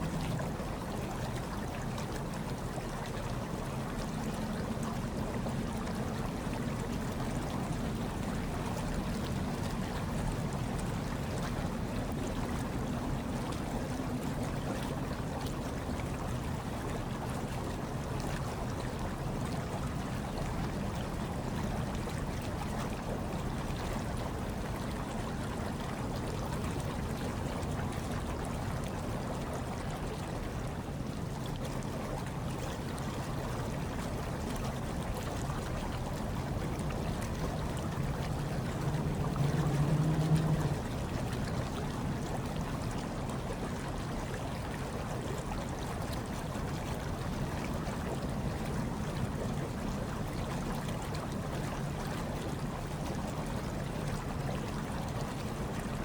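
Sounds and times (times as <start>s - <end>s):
hot tub water bubbling: 0.0s - 56.0s.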